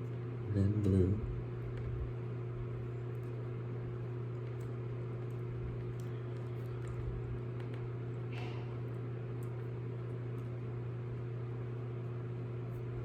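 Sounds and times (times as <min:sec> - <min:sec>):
machine hum: 0:00.0 - 0:13.0
small wires ticking and rustling: 0:01.5 - 0:13.0.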